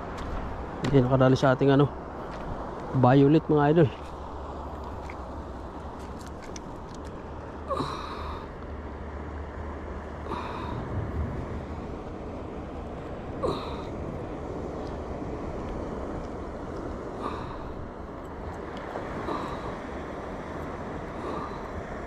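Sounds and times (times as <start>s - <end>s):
wind: 0.0s - 22.0s
sea noise: 1.8s - 22.0s.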